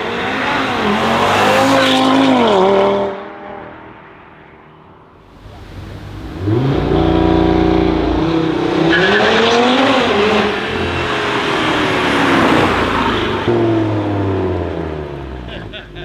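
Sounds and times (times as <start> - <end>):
car engine accelerating hard: 0.0 - 4.0, 5.2 - 16.0.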